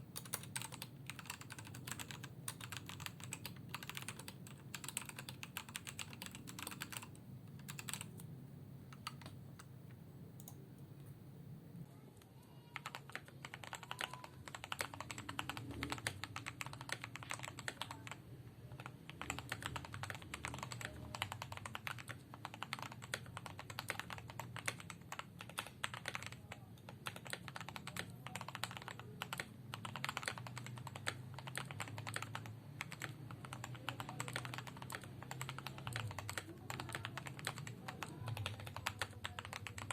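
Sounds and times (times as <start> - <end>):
mechanical keyboard typing: 0.0 - 8.3, 8.9 - 11.1, 12.8 - 39.9.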